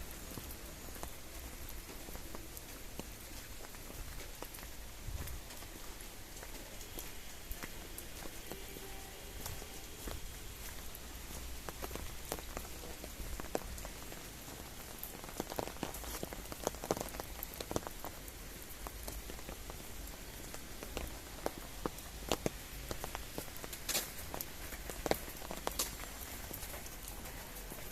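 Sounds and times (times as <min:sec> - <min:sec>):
rain falling: 0:00.0 - 0:27.9
raindrops ticking on surfaces: 0:00.0 - 0:27.9.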